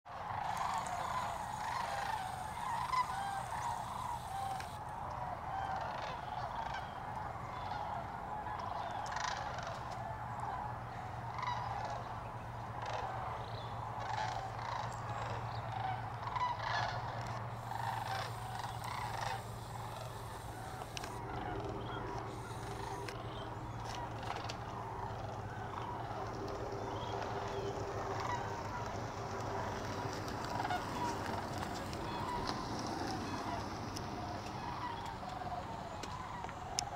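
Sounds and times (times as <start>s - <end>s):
cranes calling: 0.1s - 12.1s, 12.7s - 36.9s.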